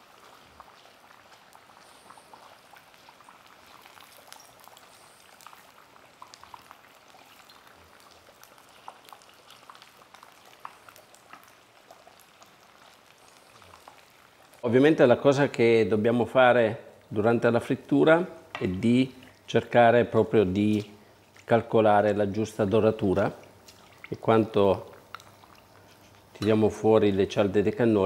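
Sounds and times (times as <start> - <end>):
oil sizzling and popping: 0.0 - 28.0.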